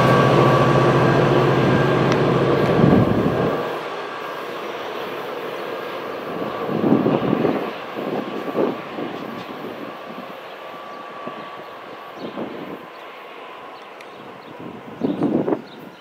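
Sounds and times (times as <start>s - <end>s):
rushing rumble of moving train: 0.0s - 16.0s
train engine drone: 0.0s - 16.0s.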